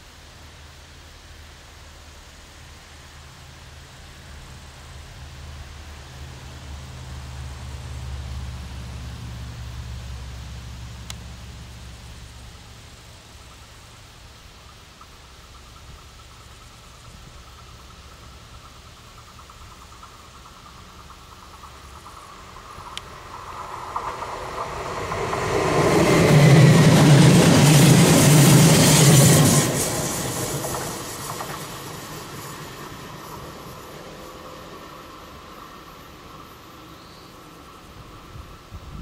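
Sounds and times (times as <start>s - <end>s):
electric train passing on rails: 0.0s - 39.0s.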